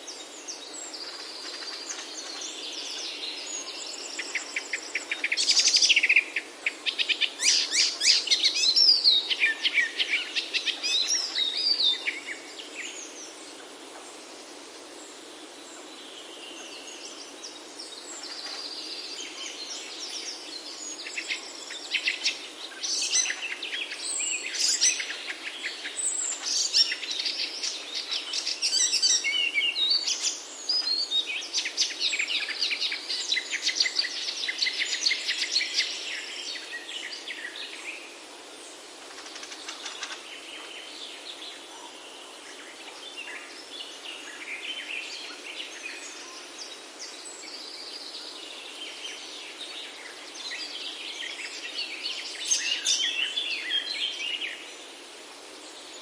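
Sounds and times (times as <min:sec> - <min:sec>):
songbirds singing: 0:00.0 - 0:56.0
steady soft hiss: 0:00.0 - 0:56.0.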